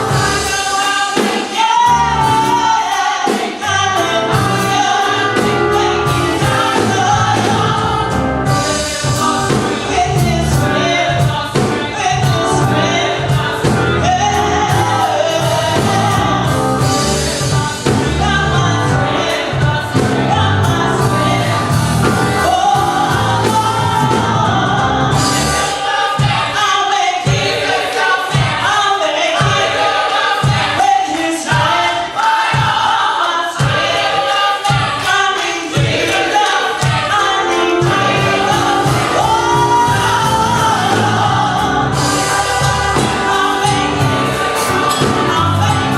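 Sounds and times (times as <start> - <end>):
gospel choir singing with band: 0.0 - 45.9.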